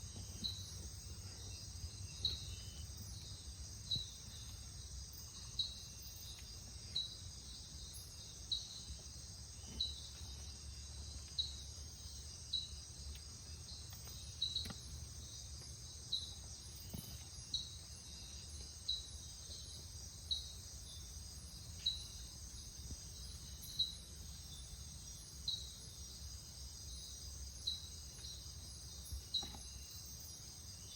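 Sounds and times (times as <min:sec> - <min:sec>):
insect chorus trilling: 0:00.0 - 0:30.9.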